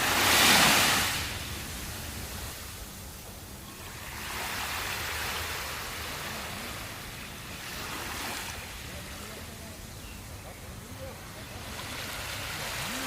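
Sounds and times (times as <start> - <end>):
sea waves on sandy beach: 0.0 - 13.0.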